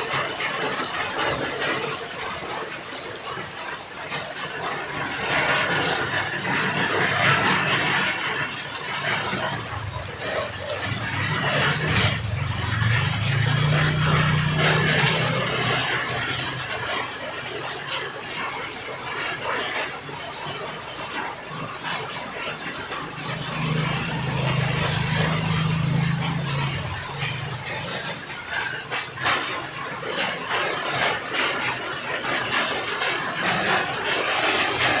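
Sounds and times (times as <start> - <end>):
heavy rain: 0.0 - 35.0
overflowing water running: 0.0 - 35.0
vehicle engine humming past: 5.0 - 19.9, 21.0 - 35.0.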